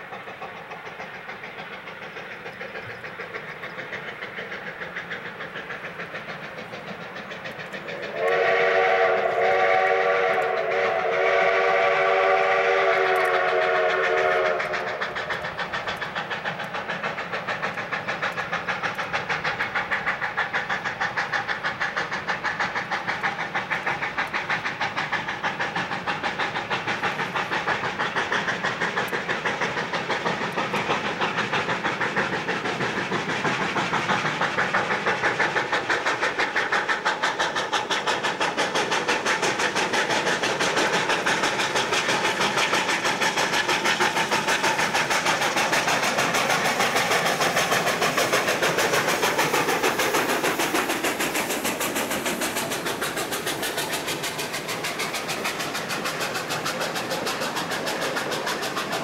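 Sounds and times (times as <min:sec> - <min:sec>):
steam locomotive exhaust beat: 0:00.0 - 0:59.0.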